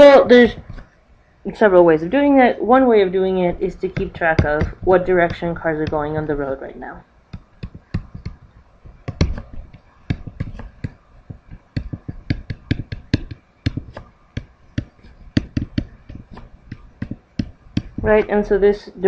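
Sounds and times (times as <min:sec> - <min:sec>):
stylus tapping and scratching on tablet: 0:00.0 - 0:01.0, 0:02.7 - 0:18.8.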